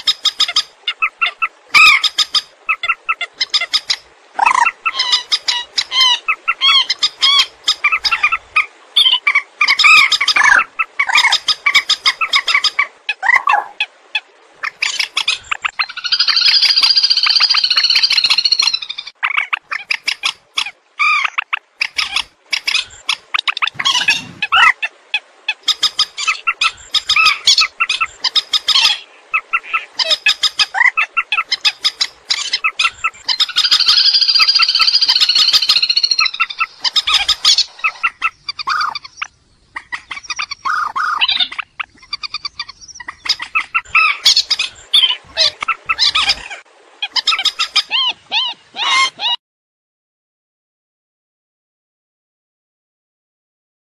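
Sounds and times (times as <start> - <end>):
swamphen shrieking and clucking: 0.0 - 20.0, 20.6 - 39.2, 39.8 - 49.4.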